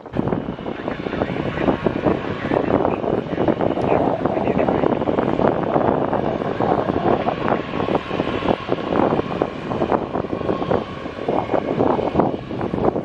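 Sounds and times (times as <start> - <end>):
jet engines whining: 0.0 - 13.0
wind buffeting microphone: 0.0 - 13.0.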